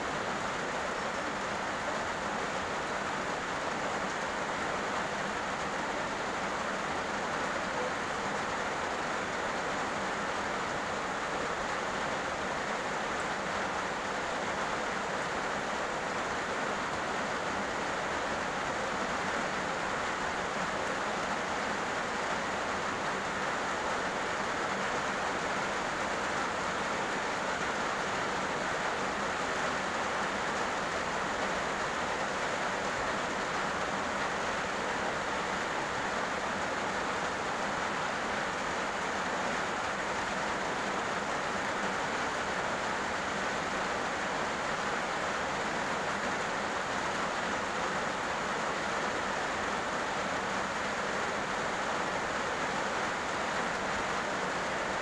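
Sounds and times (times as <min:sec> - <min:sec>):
heavy rain on a road: 0:00.0 - 0:55.0.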